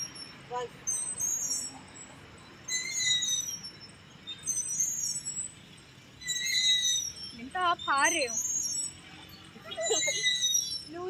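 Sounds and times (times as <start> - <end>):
playground swings squeaking: 0.0 - 11.0.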